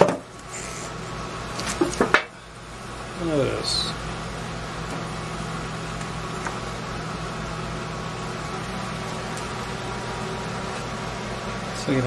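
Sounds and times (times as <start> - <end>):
smoke machine humming: 0.0 - 12.0.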